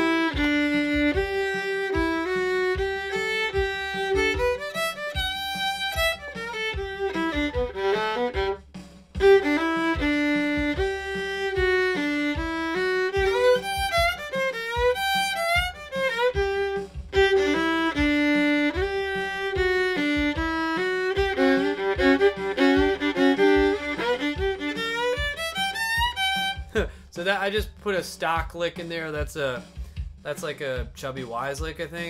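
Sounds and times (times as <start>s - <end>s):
solo fiddle playing bluegrass: 0.0s - 26.9s.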